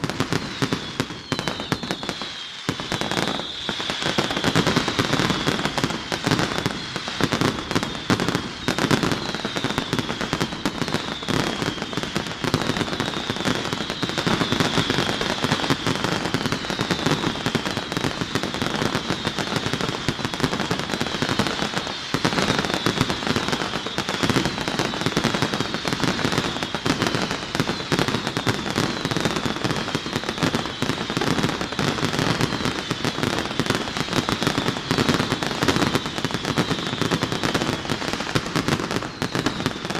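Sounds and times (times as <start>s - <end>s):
fireworks bangs and crackling: 0.0s - 39.9s
short falling whistle: 0.2s - 39.9s.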